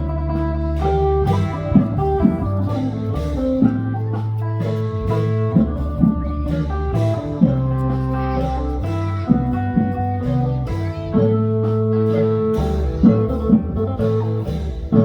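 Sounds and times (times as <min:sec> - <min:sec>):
plucked guitar melody: 0:00.0 - 0:15.0
sustained bass notes: 0:00.0 - 0:15.0.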